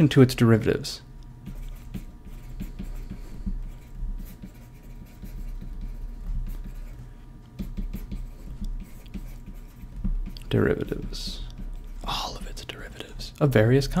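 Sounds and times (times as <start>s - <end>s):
faint steady hum: 0.0s - 14.0s
stylus tapping and scratching: 1.2s - 14.0s.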